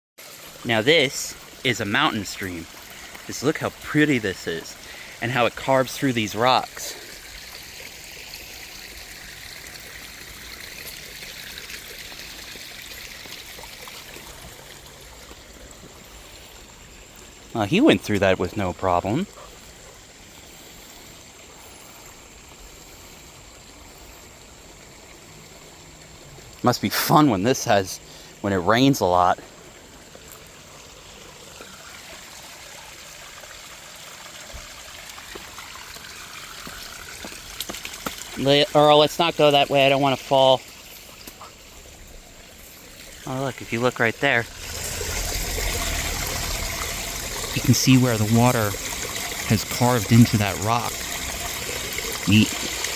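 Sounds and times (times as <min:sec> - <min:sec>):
stream rushing over rocks: 0:00.2 - 0:23.3, 0:23.9 - 0:52.9.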